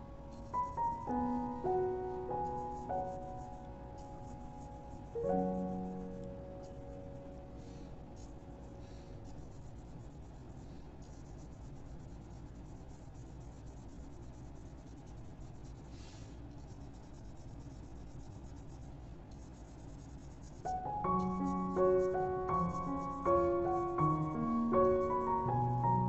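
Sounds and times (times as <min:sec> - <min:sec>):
low steady hum: 0:00.0 - 0:26.0
paintbrush rubbing on paper: 0:00.0 - 0:26.0.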